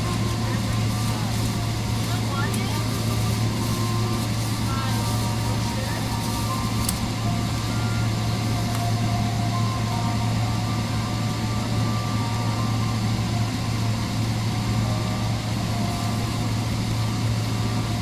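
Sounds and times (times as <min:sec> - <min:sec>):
vehicle cabin hum and rush: 0:00.0 - 0:18.0.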